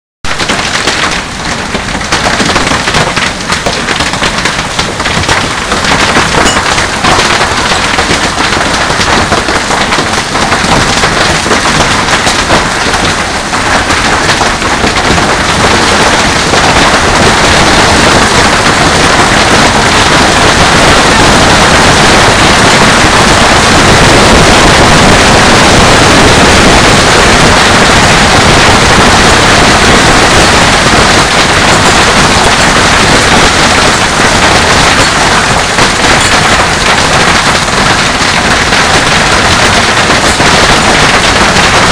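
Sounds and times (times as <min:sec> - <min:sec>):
hail clattering on hard surfaces: 0:00.2 - 0:41.9.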